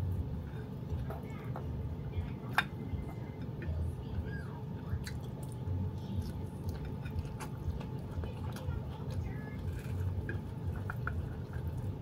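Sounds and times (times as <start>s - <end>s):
chewing leafy greens: 2.2s - 12.0s.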